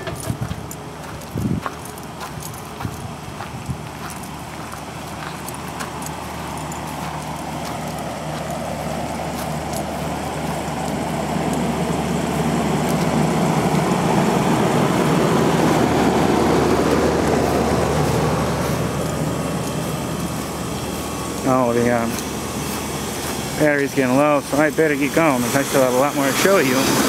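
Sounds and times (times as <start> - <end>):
air-conditioner units humming: 0.0 - 27.0.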